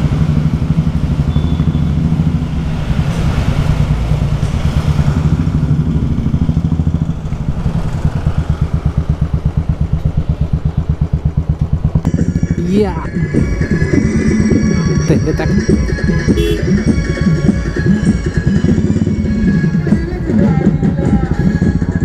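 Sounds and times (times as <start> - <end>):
motorcycle engine thumping: 0.0 - 12.4, 15.6 - 21.9.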